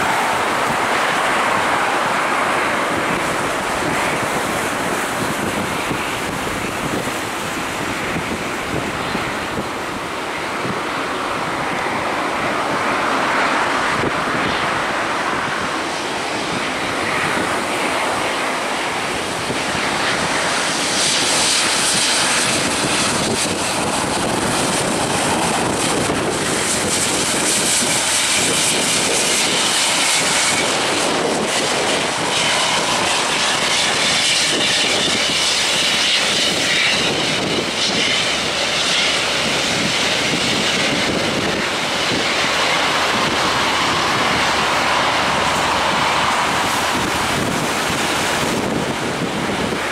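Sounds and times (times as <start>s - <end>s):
jet engines rushing and whining: 0.0s - 49.9s.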